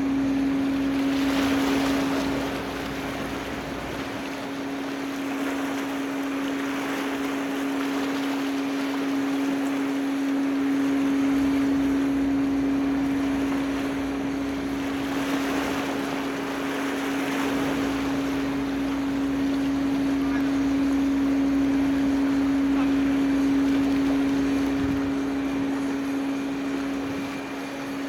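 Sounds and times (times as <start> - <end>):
ship machinery hum: 0.0 - 28.0
water noise: 0.0 - 28.0
wind: 0.0 - 28.0.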